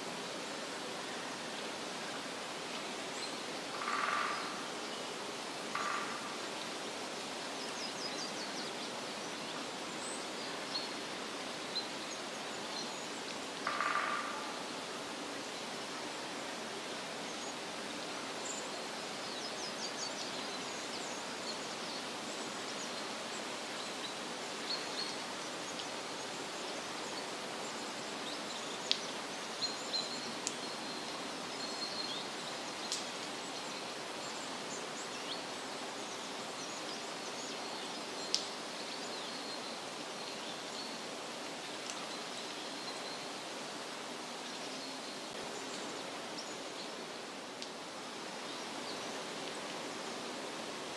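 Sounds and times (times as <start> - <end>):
steady rushing hiss: 0.0 - 50.9.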